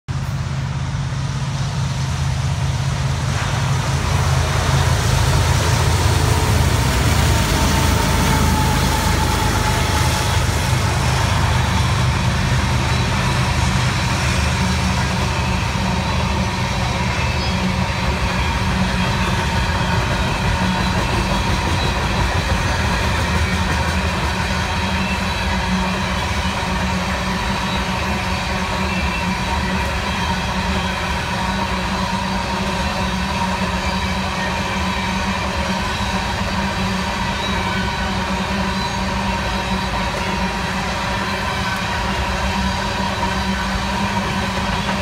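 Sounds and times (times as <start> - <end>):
diesel locomotive engine rumble: 0.0 - 45.0
train cars rolling on rails: 0.1 - 45.0.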